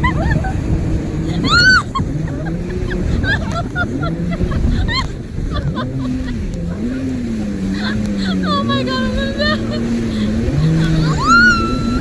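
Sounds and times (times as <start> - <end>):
jet ski engines running: 0.0 - 12.0.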